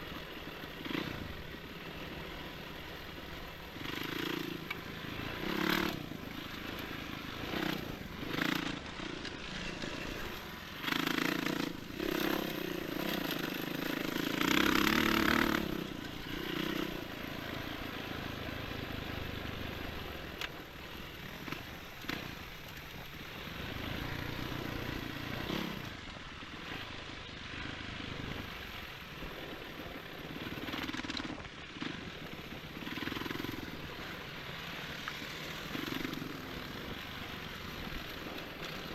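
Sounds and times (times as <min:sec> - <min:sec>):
motorcycle engine revving: 0:00.0 - 0:22.6, 0:23.2 - 0:28.9, 0:30.1 - 0:38.9.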